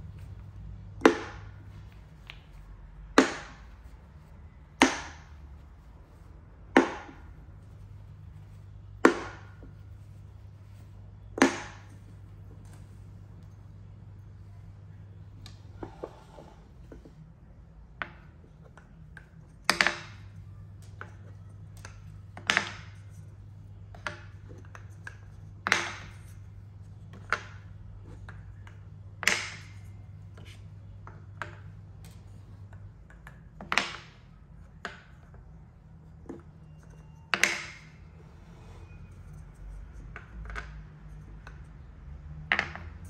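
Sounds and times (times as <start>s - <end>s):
wooden balls clacking into bowl: 0.1s - 17.2s, 18.0s - 38.2s
wooden cups tapping on marble: 0.2s - 14.5s, 15.2s - 17.2s, 18.0s - 41.8s, 42.5s - 43.0s.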